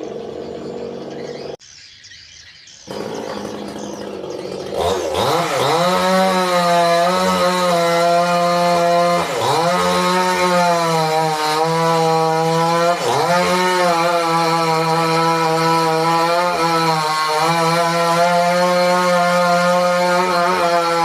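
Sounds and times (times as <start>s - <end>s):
chainsaw cutting wood: 0.0s - 1.6s, 2.9s - 21.0s.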